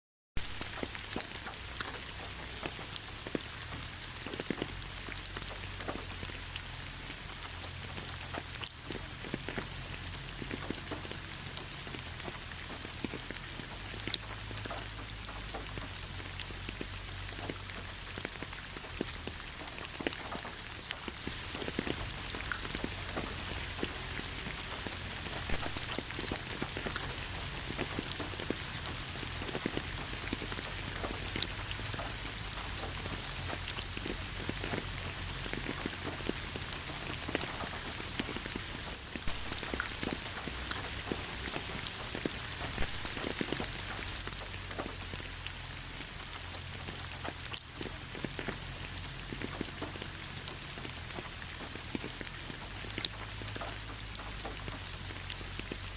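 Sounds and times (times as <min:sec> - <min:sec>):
rain falling: 0:00.4 - 0:55.9.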